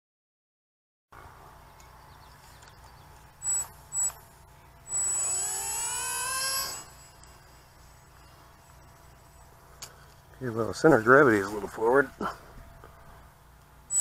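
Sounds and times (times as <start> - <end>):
small electric motors whining: 1.8 - 14.0.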